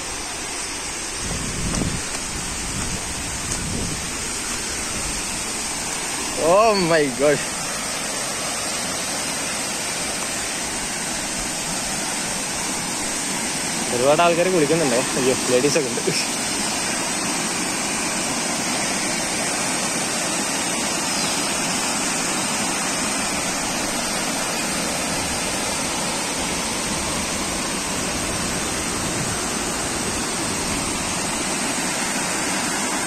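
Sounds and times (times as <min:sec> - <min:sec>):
river rushing over boulders: 0:00.0 - 0:33.0.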